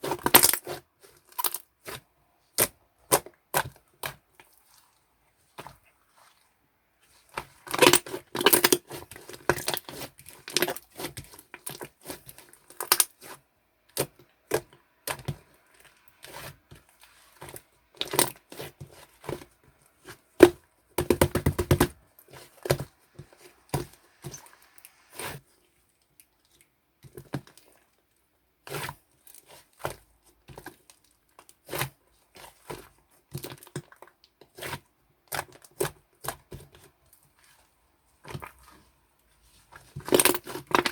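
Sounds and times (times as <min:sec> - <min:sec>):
slime crackling sticky: 0:00.0 - 0:26.6, 0:28.6 - 0:40.9.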